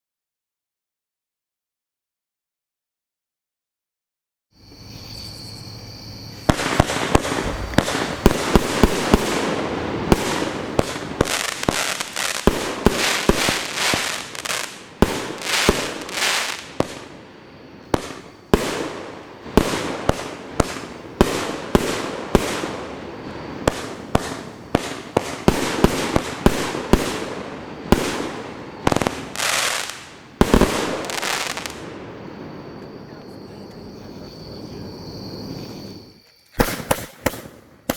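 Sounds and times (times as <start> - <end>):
fireworks bangs: 6.4 - 37.9
fireworks hiss: 6.4 - 37.9.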